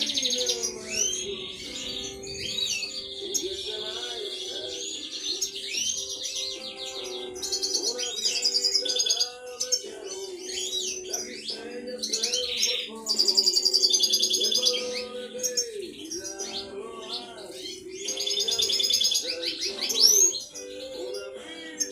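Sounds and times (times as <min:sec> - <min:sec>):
finches twittering and trilling: 0:00.0 - 0:21.9.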